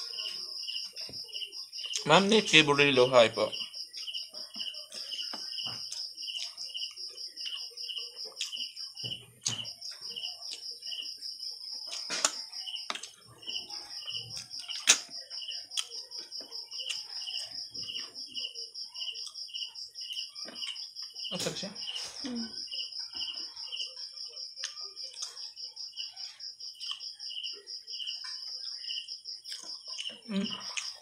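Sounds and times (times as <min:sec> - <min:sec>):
insect chirping: 0:00.0 - 0:31.0
insects trilling: 0:00.0 - 0:31.0.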